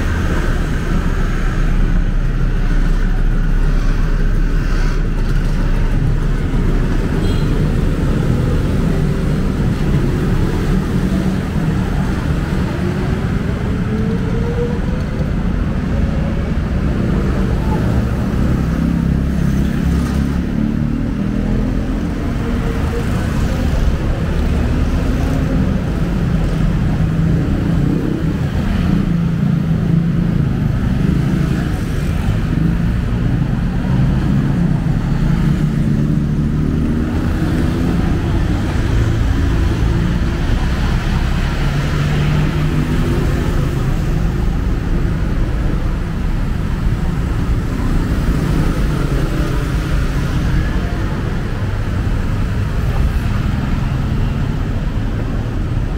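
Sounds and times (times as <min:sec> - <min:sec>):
street traffic rumble: 0:00.0 - 0:55.9.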